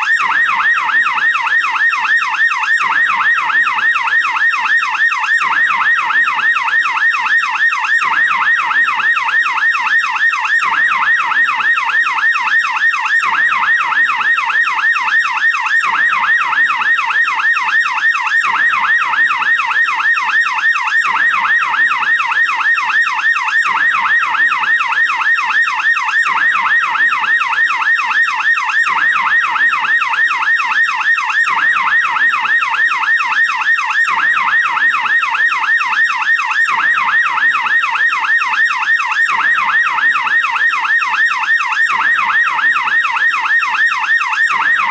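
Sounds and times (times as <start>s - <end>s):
police siren yelp: 0.0s - 44.9s.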